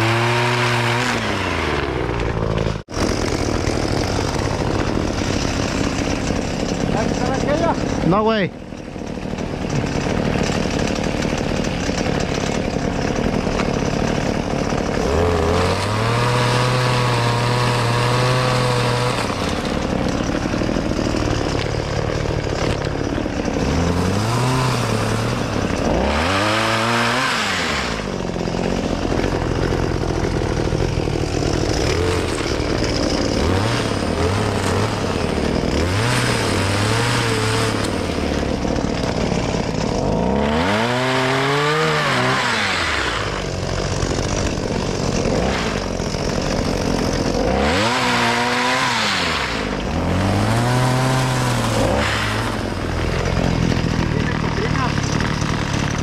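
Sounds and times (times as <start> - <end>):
pole saw engine revving: 0.0 - 56.0.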